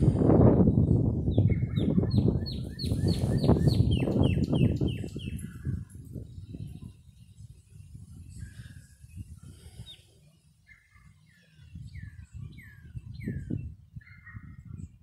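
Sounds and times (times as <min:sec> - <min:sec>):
wind rumbling on microphone: 0:00.0 - 0:15.0
songbird singing: 0:00.6 - 0:15.0.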